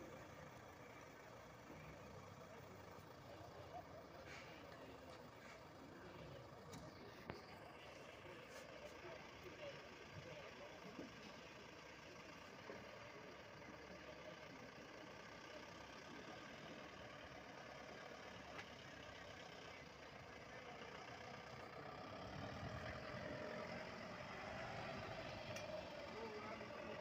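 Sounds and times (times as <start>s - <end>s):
faint engine idling: 0.0s - 27.0s.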